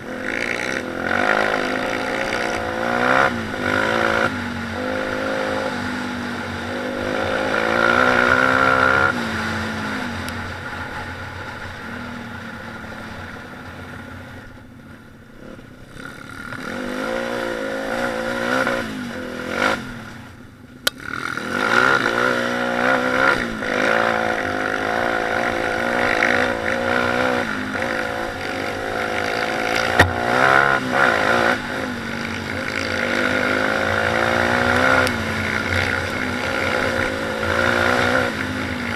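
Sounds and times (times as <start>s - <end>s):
motorbike engine revving: 0.0s - 12.2s, 15.4s - 38.9s.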